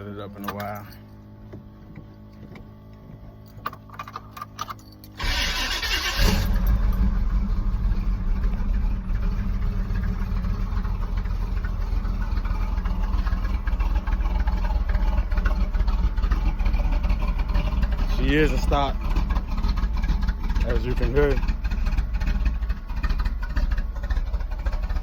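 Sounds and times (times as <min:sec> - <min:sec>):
car engine rumbling: 0:00.0 - 0:25.0
starter cranking: 0:03.6 - 0:25.0.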